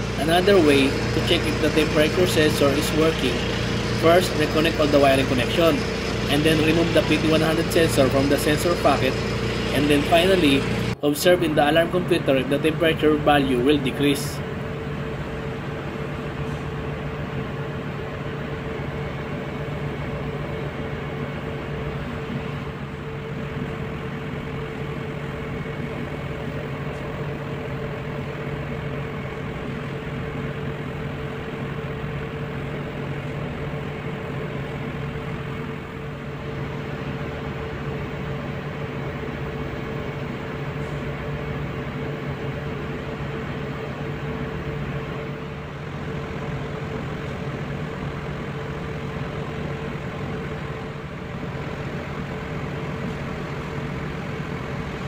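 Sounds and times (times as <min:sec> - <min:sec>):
engine-room machinery drone: 0:00.0 - 0:55.0.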